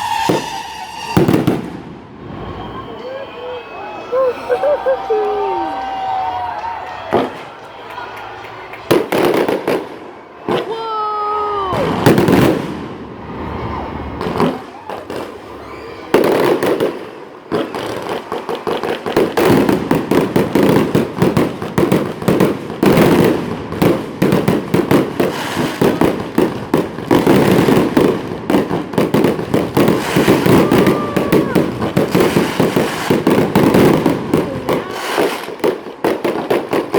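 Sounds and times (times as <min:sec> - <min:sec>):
fireworks bangs and crackles: 0:00.0 - 0:03.6, 0:05.7 - 0:07.8, 0:08.8 - 0:36.9.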